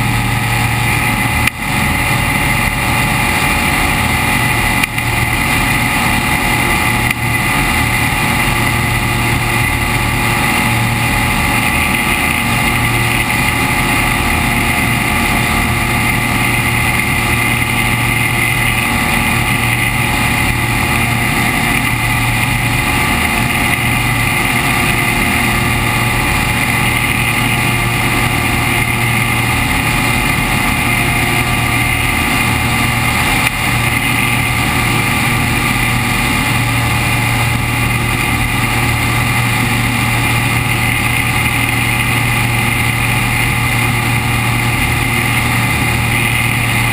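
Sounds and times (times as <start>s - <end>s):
propeller engine droning: 0.0s - 46.9s.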